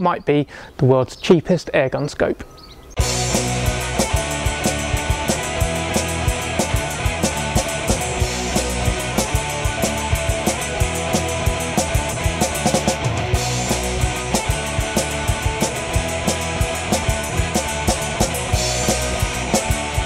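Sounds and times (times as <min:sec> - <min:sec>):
rock music with fast drum beat: 0:03.0 - 0:20.0.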